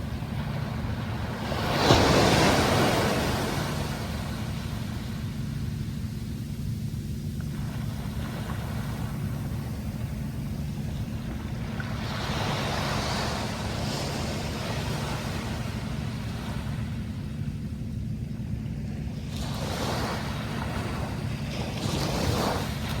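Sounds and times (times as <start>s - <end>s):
steady low rumble: 0.0s - 23.0s
waves breaking on shore: 0.0s - 23.0s.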